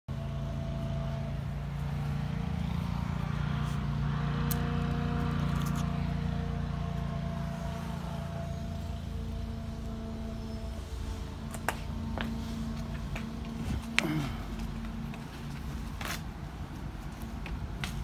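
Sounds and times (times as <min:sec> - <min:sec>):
low motor hum: 0:00.1 - 0:17.9.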